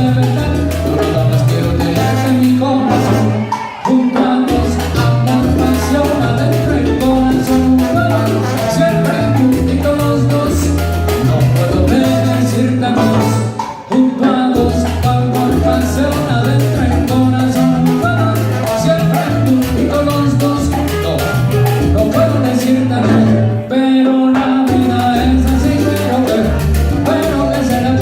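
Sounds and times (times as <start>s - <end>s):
salsa band playing: 0.0s - 28.0s.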